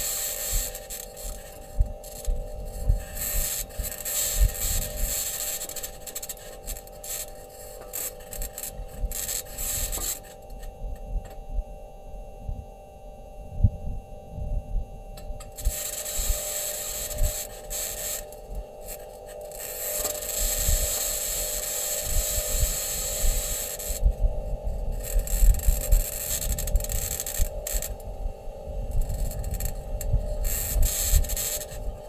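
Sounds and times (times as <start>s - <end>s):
scratchy hiss: 0.0s - 10.7s, 15.4s - 24.1s, 24.7s - 28.0s, 28.9s - 32.0s
steady hum: 0.0s - 32.0s.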